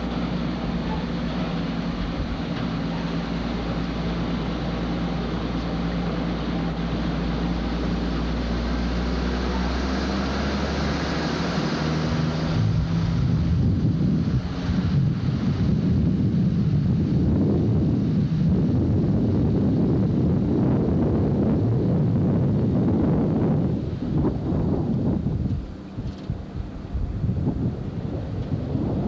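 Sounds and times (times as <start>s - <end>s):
vehicle engine with road noise: 0.0s - 29.0s.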